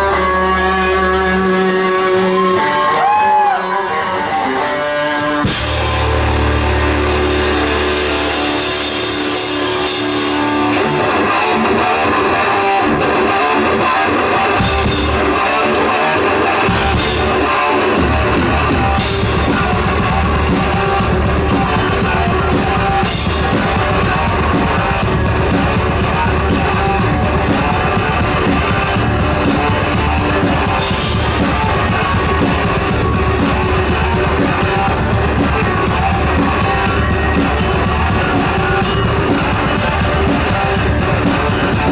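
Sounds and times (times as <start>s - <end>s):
distorted electric guitars: 0.0s - 41.9s
drum kit with cymbals: 5.4s - 41.9s.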